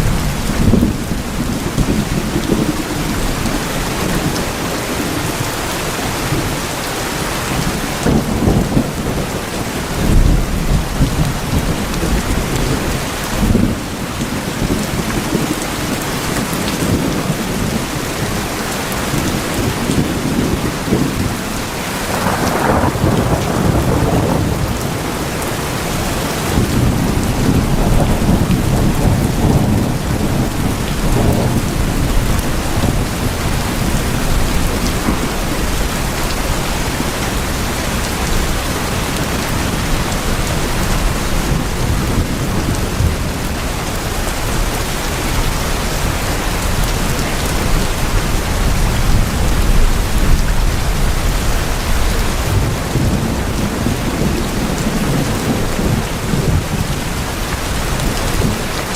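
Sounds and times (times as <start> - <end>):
heavy rain on tin roofs: 0.0 - 58.9.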